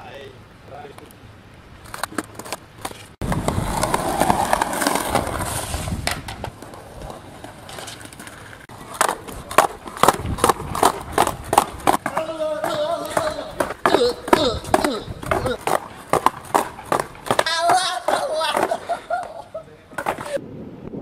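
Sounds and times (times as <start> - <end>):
skateboard wheels rolling on pavement: 0.6 - 21.0
skateboard clacks: 1.9 - 20.4.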